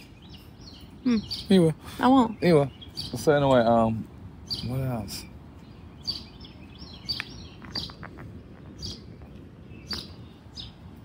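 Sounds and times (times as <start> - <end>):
birds chirping: 0.0 - 11.0
low background noise: 0.0 - 11.0.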